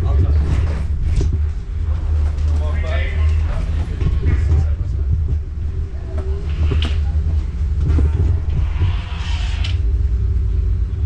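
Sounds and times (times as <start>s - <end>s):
wheelchair rolling rumble: 0.0s - 9.9s.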